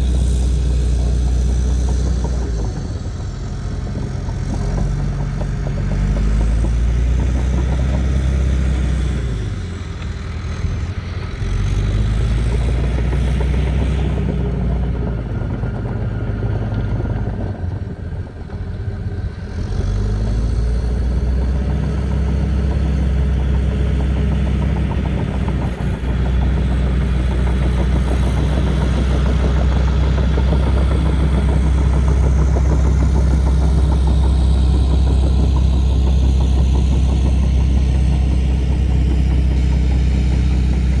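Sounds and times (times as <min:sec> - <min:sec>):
bulldozer diesel engine droning: 0:00.0 - 0:41.0.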